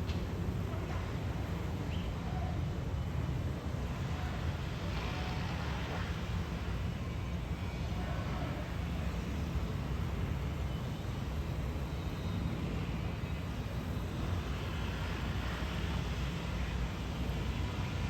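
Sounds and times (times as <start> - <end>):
aircraft engine drone overhead: 0.0 - 18.0.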